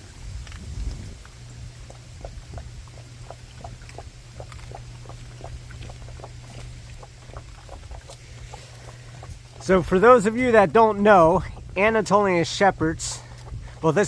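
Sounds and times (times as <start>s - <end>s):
low wind rumble: 0.0s - 14.0s
dogs crunching bones: 0.3s - 14.0s.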